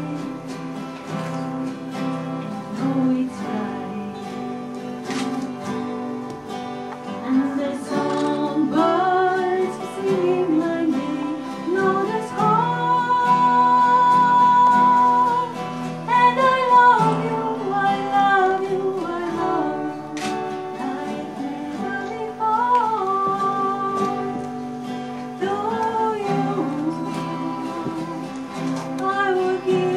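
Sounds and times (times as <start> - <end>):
person singing: 0.0 - 1.3, 2.4 - 5.8, 7.1 - 29.9
acoustic guitar: 0.0 - 29.9.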